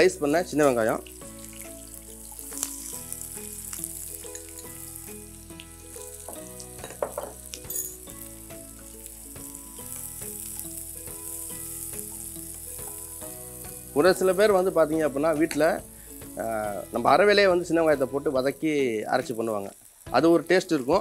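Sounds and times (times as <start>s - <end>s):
shallots sizzling in oil: 0.0s - 21.0s.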